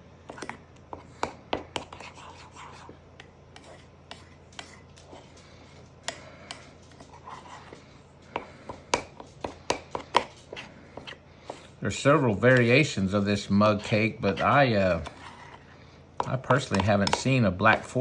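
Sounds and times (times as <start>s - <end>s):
spoon stirring batter in a mug: 0.2s - 18.0s.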